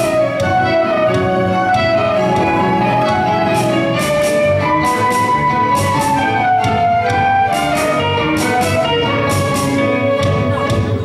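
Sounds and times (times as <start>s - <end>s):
orchestra playing: 0.0s - 11.0s
sharp rhythmic hits: 0.0s - 11.0s.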